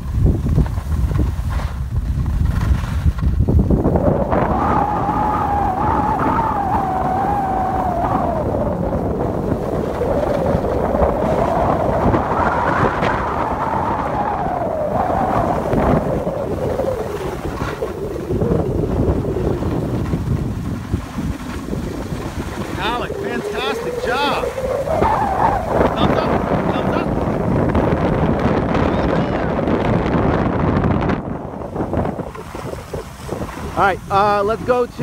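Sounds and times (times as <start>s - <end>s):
wind rumbling on microphone: 0.0s - 35.0s
wavering wind whistle: 3.9s - 33.8s.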